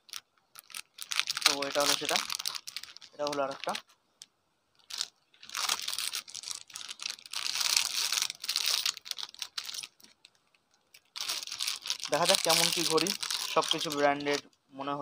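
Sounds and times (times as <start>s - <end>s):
plastic packaging crinkling: 0.0s - 4.0s, 4.8s - 14.5s.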